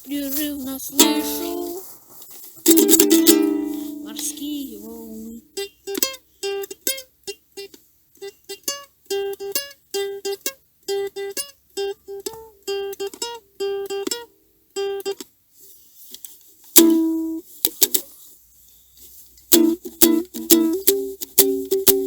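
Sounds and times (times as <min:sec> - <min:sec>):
acoustic string chords strummed: 0:00.1 - 0:01.9, 0:02.6 - 0:15.3, 0:16.8 - 0:18.1, 0:19.5 - 0:22.0.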